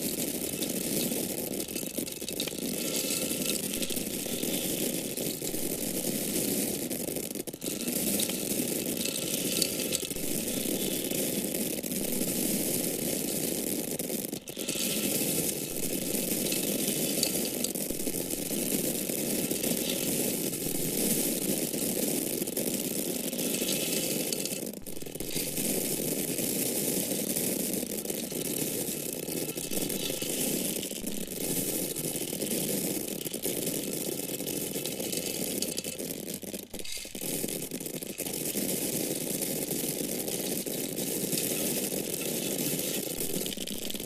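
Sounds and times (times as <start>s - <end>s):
dry grains pouring: 0.0s - 44.0s.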